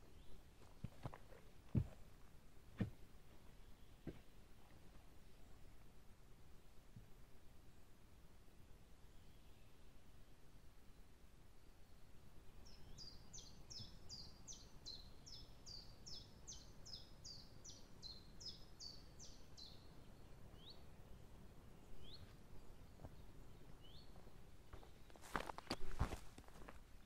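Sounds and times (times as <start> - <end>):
songbird singing: 0.0 - 2.0, 3.3 - 5.9, 8.8 - 26.2.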